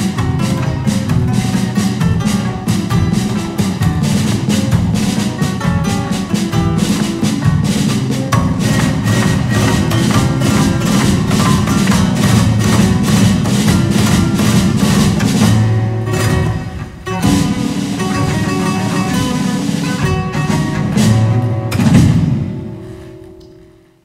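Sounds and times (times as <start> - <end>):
rapid percussive taps: 0.0 - 22.3
flamenco instrumental music: 0.0 - 24.0.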